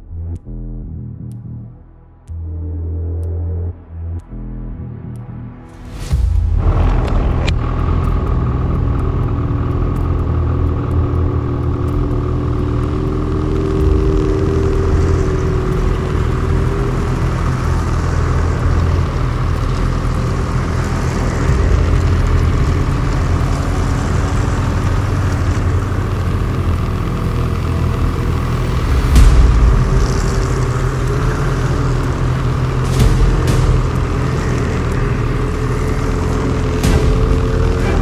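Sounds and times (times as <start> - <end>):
snowmobile engines rumbling: 4.4 - 38.0
snowmobile passing: 5.7 - 38.0.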